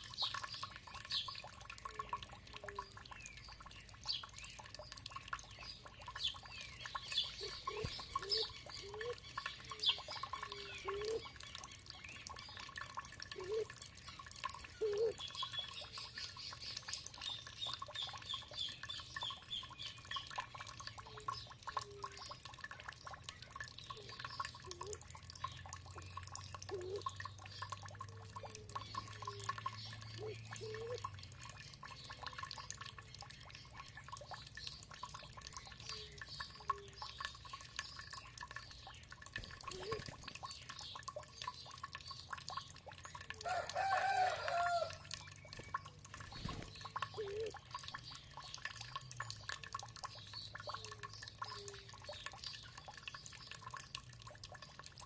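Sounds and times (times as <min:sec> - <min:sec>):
songbirds chirping: 0:00.0 - 0:55.0
water dripping and plopping: 0:00.0 - 0:55.0.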